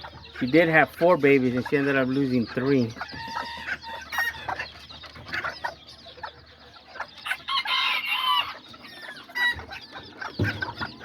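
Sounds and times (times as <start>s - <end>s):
chickens clucking and calling: 0.0s - 11.0s.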